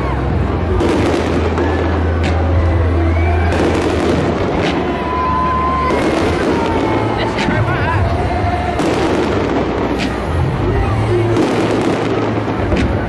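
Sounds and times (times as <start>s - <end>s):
firework bangs: 0.0s - 13.0s.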